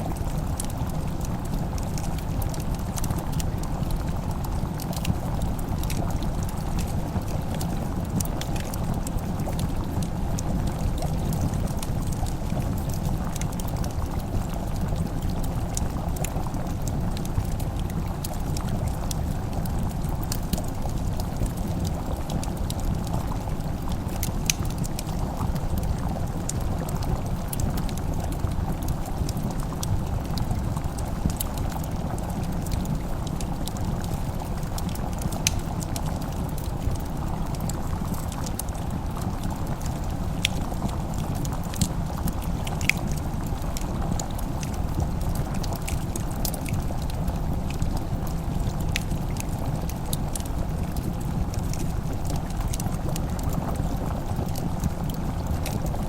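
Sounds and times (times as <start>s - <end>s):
fire crackling and popping: 0.0s - 56.0s
low fire rumble: 0.0s - 56.0s.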